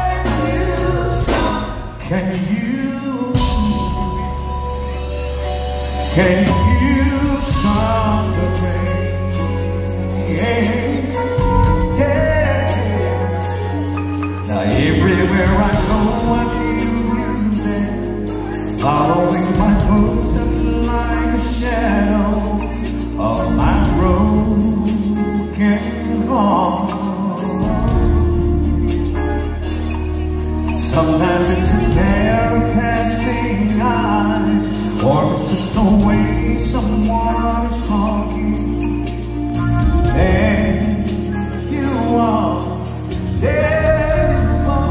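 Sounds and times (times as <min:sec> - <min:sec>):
live band playing a ballad: 0:00.0 - 0:44.9
person singing: 0:00.0 - 0:44.9.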